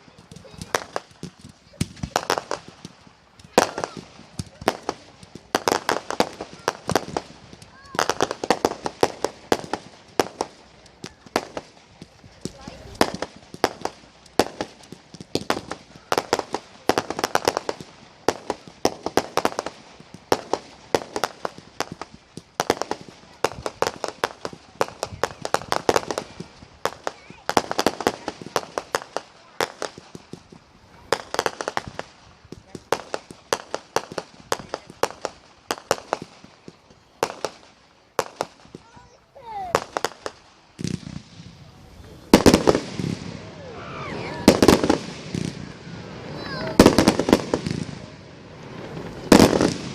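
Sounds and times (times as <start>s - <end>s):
fireworks cracking and banging: 0.0s - 49.9s.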